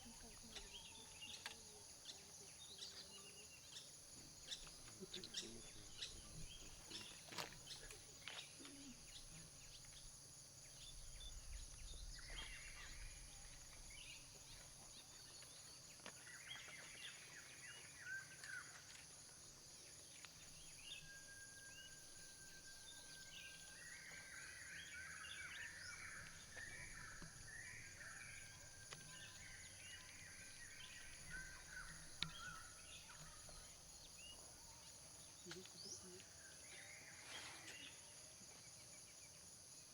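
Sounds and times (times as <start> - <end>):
birds chirping: 0.0 - 19.0, 21.8 - 38.0.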